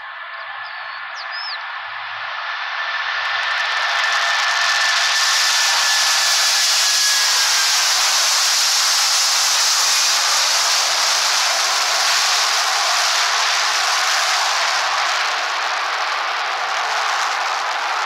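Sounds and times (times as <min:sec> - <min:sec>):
faint high engine whine: 0:00.0 - 0:18.0
jet engines rushing: 0:00.0 - 0:18.0.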